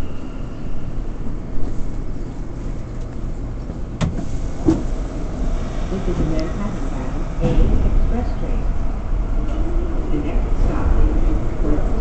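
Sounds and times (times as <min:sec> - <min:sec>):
subway wheels rumbling on rails: 0:00.0 - 0:12.0.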